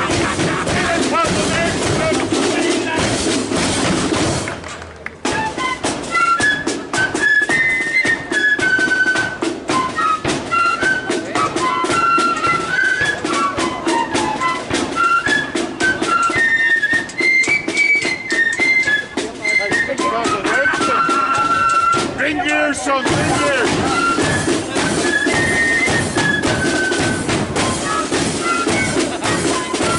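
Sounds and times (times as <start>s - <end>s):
snare and bass drum beats: 0.0s - 29.9s
flutes playing melody: 5.2s - 29.9s.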